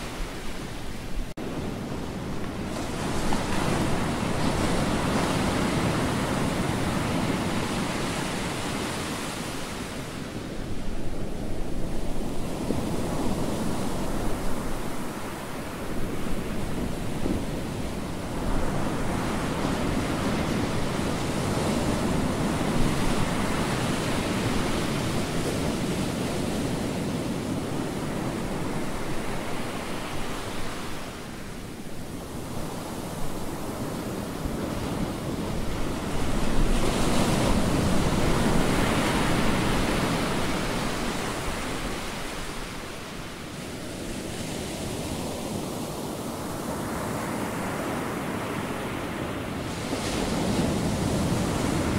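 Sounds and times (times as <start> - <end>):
ocean surf breaking on sand: 0.0 - 51.9.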